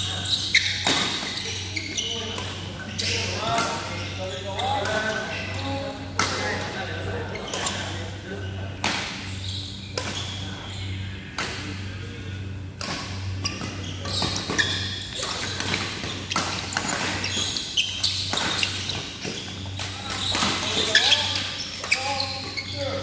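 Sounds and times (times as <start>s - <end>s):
shoes squeaking on court floor: 0.0s - 11.8s, 12.8s - 23.0s
steady low hum: 0.0s - 23.0s.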